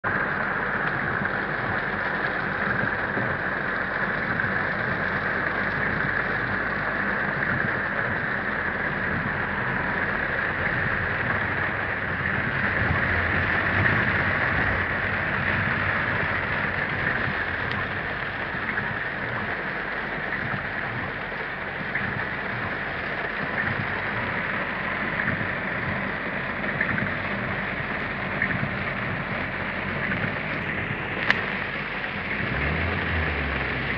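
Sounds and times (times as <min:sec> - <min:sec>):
car low rumble: 0:00.0 - 0:33.9
heavy rain on car roof: 0:00.0 - 0:33.9.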